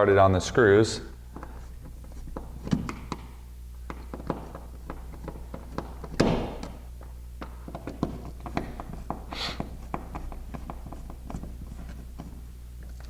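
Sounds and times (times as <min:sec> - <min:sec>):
low steady hum: 0:00.0 - 0:13.0
handling noise: 0:00.5 - 0:13.0.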